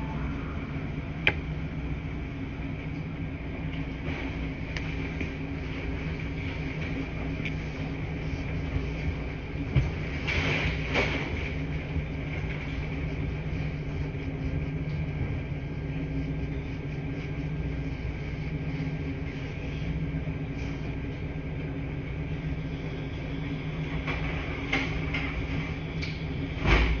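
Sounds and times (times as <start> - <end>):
washing machines humming: 0.0 - 27.0.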